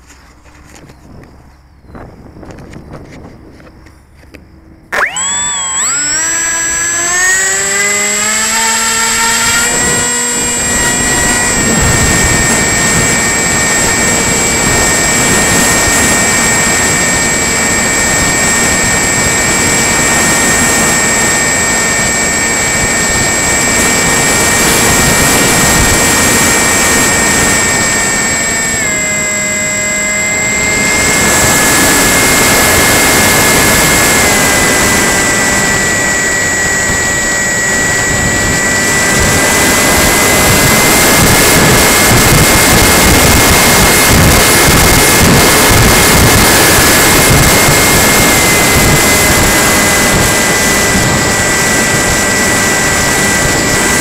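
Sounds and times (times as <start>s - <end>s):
model plane motor whining: 2.5s - 54.0s.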